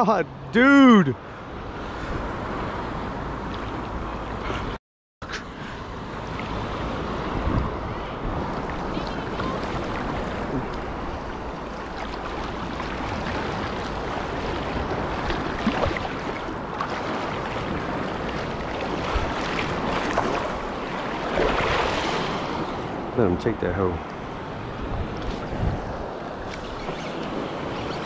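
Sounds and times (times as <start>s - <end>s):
surf water lapping and sloshing: 0.0s - 28.0s.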